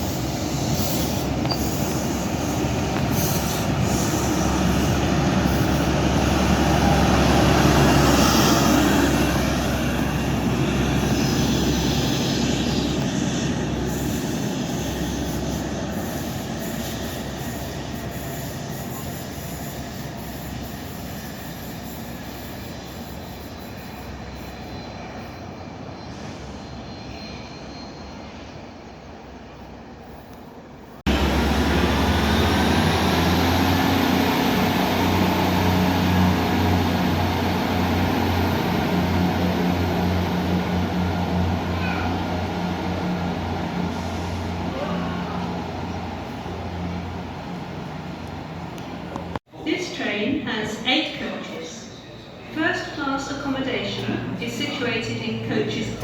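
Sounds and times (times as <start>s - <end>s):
passing train: 0.0s - 56.0s
train engines humming: 0.0s - 56.0s.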